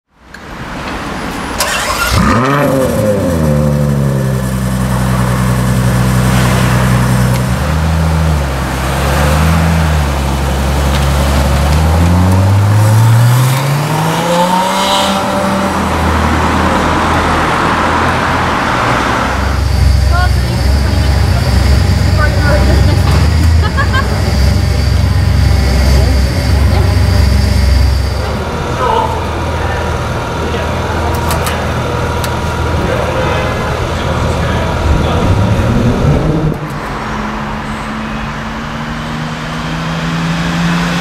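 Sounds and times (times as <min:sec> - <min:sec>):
car engine revving and idling: 0:01.6 - 0:41.0.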